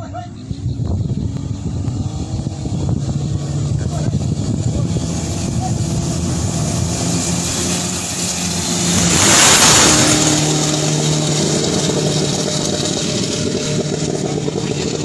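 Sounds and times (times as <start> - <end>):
racing boat engines: 0.0 - 15.0
rush of spray: 2.2 - 15.0.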